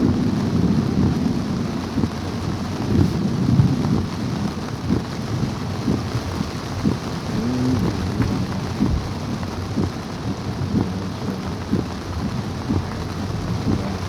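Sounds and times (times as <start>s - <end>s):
big raindrops thudding: 0.0s - 14.0s
heavy rain hissing: 0.0s - 14.0s.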